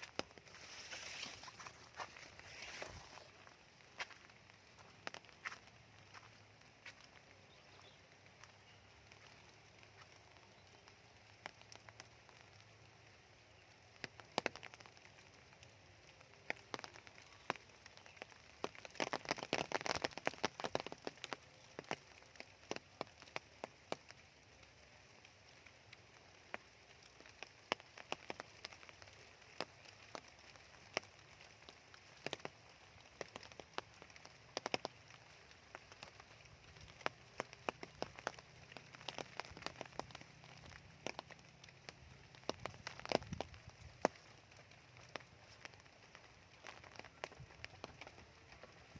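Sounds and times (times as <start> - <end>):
raindrops dripping and tapping: 0.0 - 48.9.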